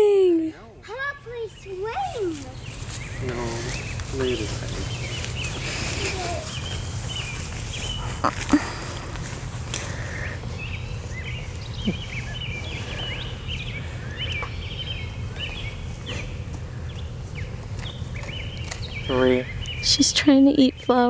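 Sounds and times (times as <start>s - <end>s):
small birds chirping: 0.5s - 21.0s.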